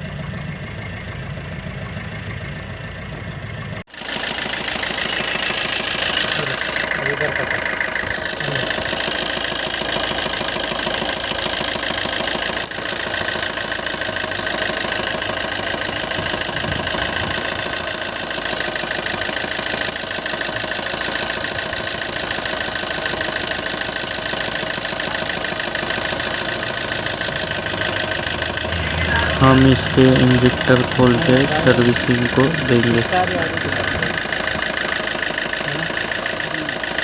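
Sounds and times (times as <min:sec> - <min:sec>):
engine idling with knocking tick: 0:00.0 - 0:37.0.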